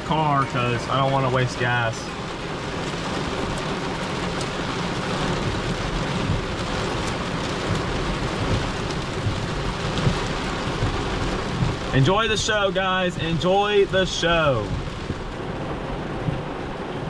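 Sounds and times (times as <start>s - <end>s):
heavy rain on car roof: 0.0s - 17.0s.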